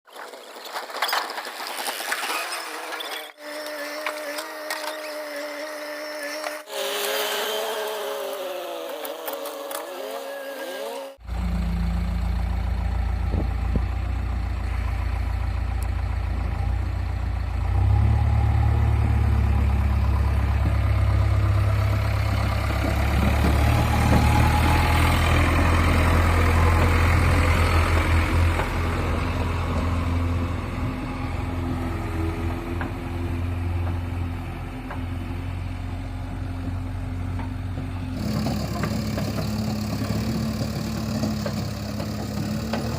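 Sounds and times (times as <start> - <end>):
backhoe diesel engine droning: 2.7 - 42.9.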